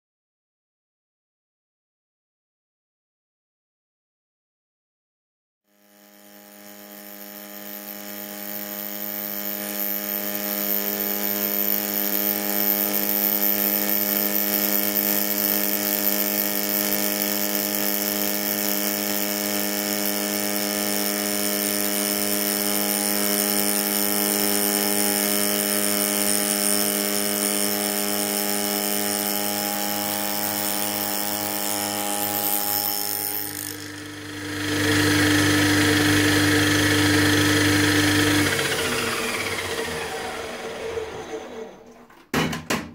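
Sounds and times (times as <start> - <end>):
milling cutter whine on steel: 5.7 - 42.0.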